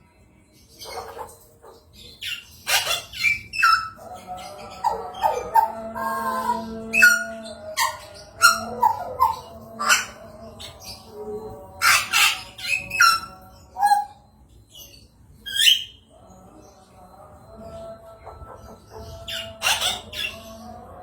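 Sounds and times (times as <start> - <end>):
songbird squawks and chirps: 0.0 - 21.0.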